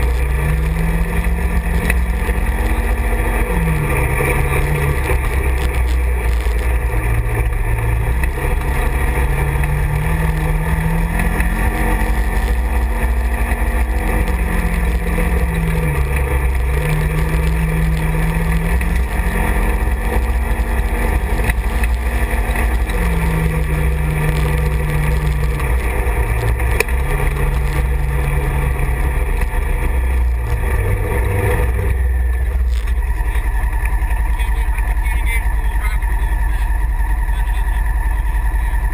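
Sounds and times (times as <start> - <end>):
utility vehicle engine running: 0.0 - 38.9.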